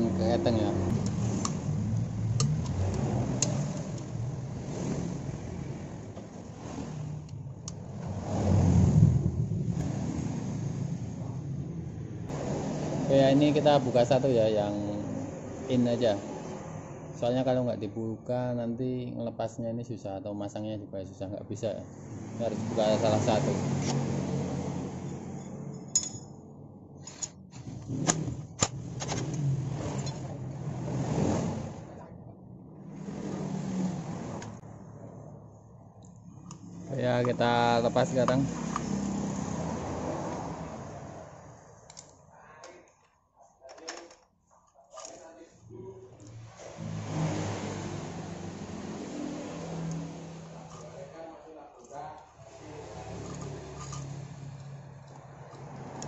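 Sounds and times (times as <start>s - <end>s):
vehicle engine noise: 0.0s - 18.5s, 20.7s - 42.2s, 45.7s - 51.4s, 52.1s - 56.0s.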